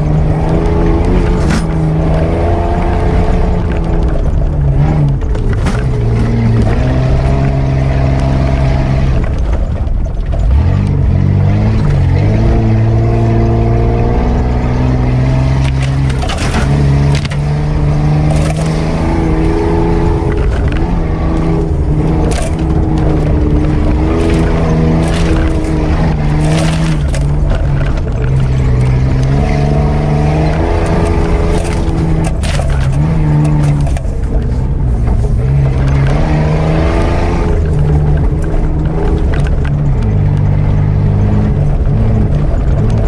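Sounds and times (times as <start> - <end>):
car engine revving: 0.0 - 43.0
knocks and scrapes over bumps: 0.0 - 43.0.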